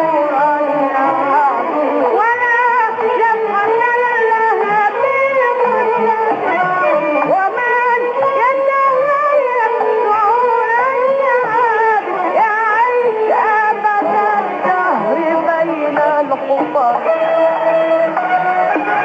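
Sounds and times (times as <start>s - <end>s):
muffled song on am radio: 0.0s - 19.0s.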